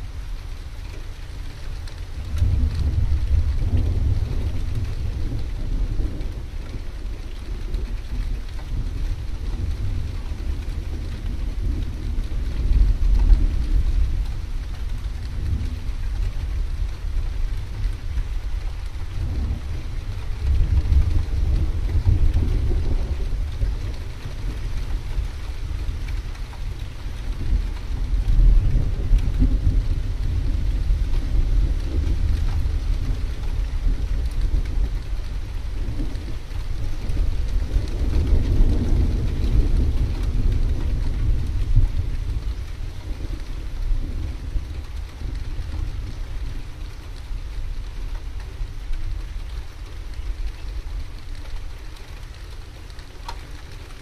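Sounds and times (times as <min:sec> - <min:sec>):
rain hiss: 0:00.0 - 0:54.0
thunder rumbling: 0:00.0 - 0:54.0.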